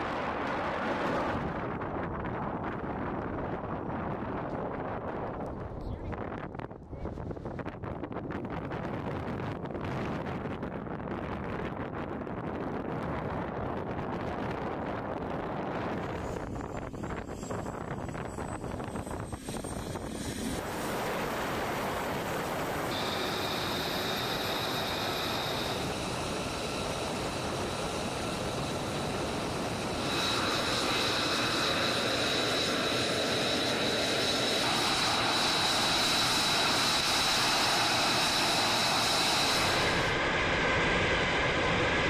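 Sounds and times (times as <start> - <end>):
jet engine whine and rush: 0.0 - 42.0.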